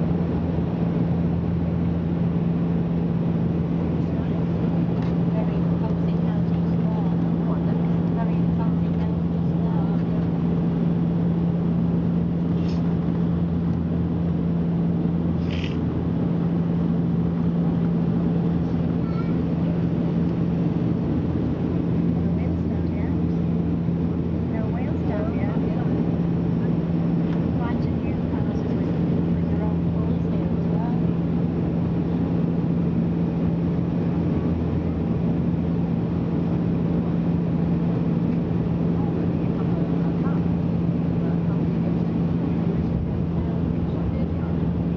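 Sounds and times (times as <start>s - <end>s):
airliner engine and propeller drone: 0.0s - 44.9s
strong low hum: 0.0s - 44.9s.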